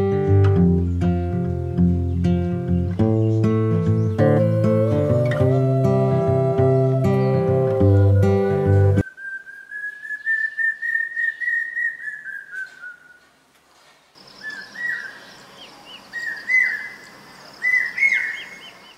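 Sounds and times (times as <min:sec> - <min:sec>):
cuckoo calling: 0:02.2 - 0:13.3, 0:14.4 - 0:18.9.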